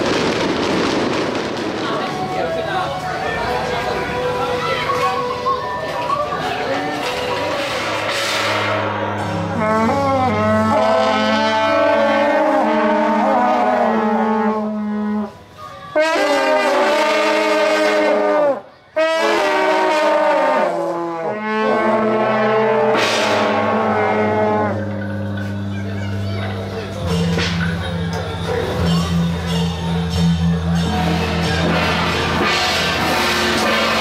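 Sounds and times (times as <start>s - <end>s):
low drone: 0.0s - 15.6s, 21.7s - 34.0s
metal horns playing held notes: 6.6s - 34.0s.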